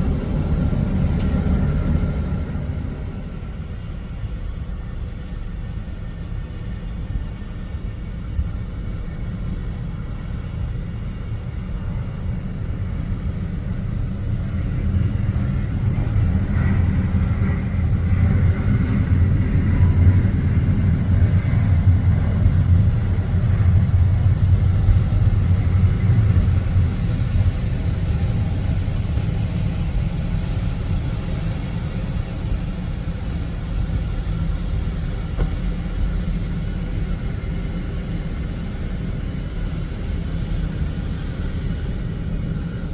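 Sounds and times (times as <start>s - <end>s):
faint turbine whine: 0.0s - 42.9s
jet airliner engines rumbling: 0.0s - 42.9s.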